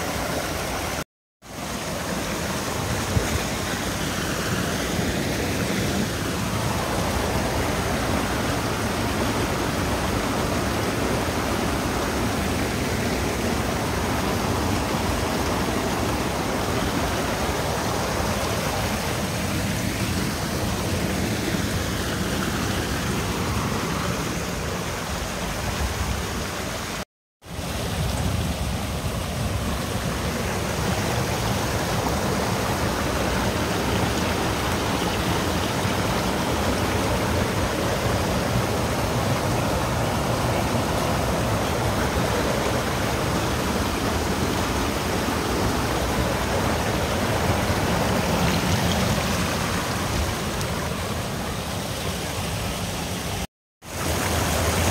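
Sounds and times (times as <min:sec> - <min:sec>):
flowing stream water: 0:00.0 - 0:54.9.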